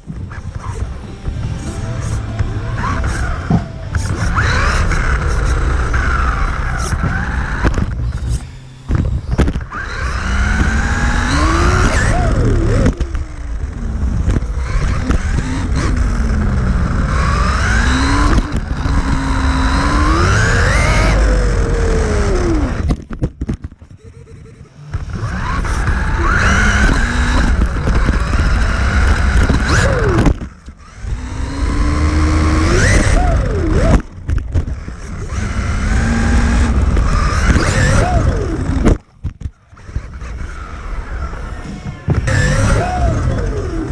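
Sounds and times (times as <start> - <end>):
electric motor whining: 0.0 - 23.2, 24.0 - 43.9
tires rumbling on carpet: 0.0 - 43.9.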